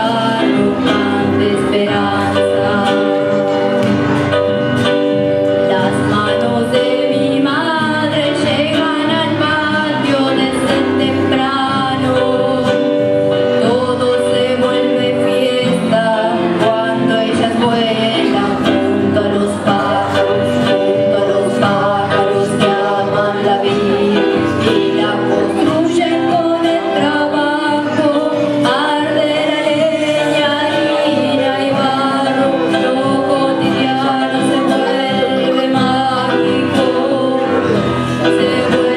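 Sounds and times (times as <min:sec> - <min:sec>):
acoustic guitar: 0:00.0 - 0:38.9
electronic keyboard: 0:00.0 - 0:38.9
woman singing into a microphone: 0:00.0 - 0:38.9.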